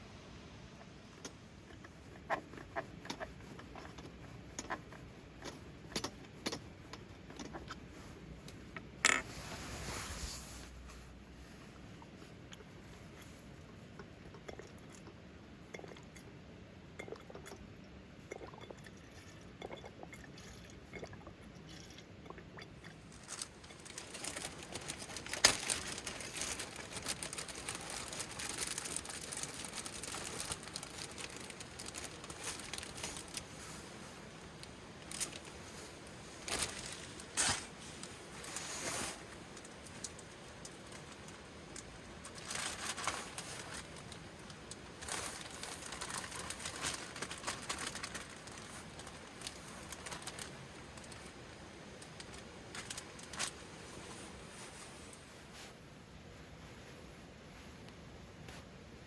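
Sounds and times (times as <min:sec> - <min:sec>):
light clicks and crinkling: 0:00.8 - 0:16.3, 0:18.4 - 0:55.8.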